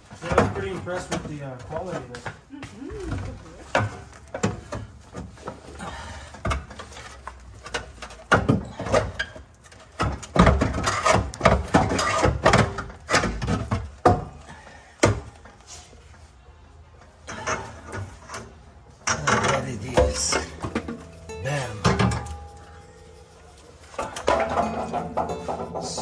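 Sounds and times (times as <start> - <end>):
parts knocking and scraping: 0.0 - 2.4, 3.4 - 16.0, 17.1 - 26.0.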